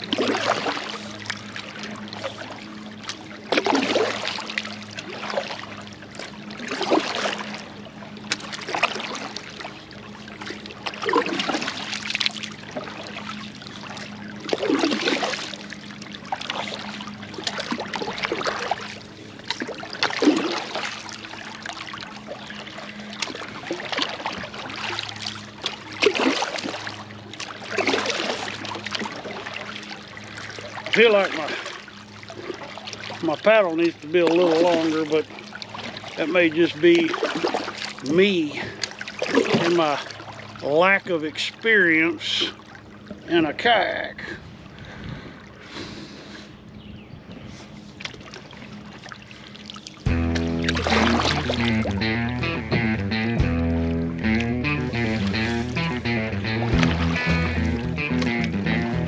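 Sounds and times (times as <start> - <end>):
paddle splashing in water: 0.0 - 46.5, 47.3 - 59.0
water trickling off paddle: 0.0 - 46.5, 47.4 - 59.0.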